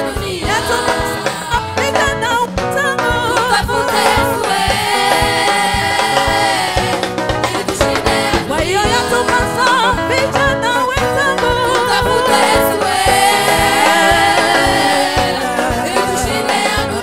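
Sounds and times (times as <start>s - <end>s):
backing music with drum beat: 0.0s - 17.0s
gospel choir singing: 0.0s - 17.0s.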